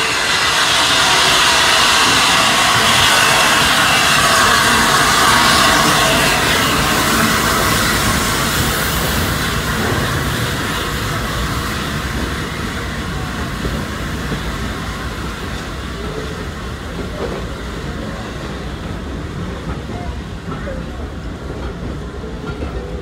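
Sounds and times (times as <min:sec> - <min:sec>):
steam train rumbling past: 0:00.0 - 0:23.0.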